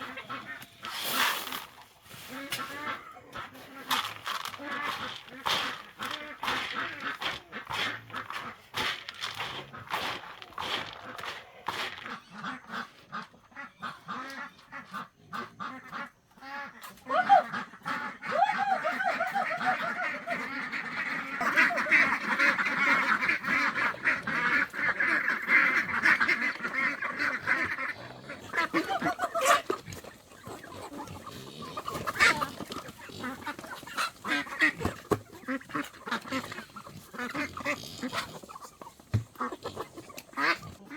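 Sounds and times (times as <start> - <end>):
waterfowl calling: 0.0 - 40.9.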